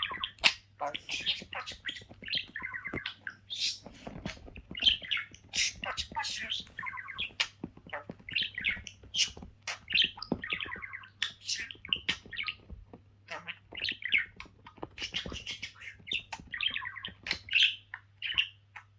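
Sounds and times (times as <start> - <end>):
pet bird chirping: 0.0 - 18.9.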